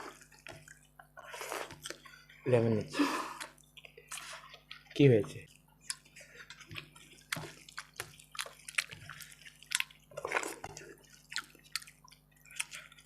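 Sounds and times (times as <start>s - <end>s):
wet chewing smacks and squelches: 0.1s - 2.3s, 3.4s - 13.0s.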